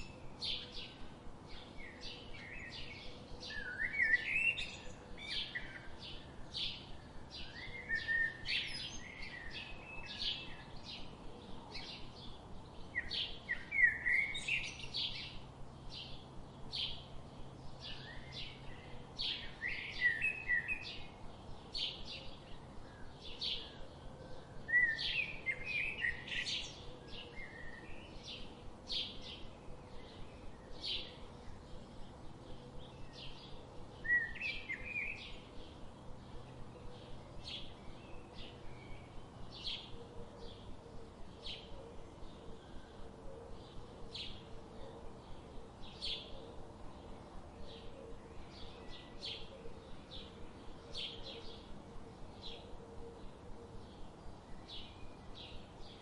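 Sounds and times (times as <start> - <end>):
warbling birdsong: 0.0 - 56.0.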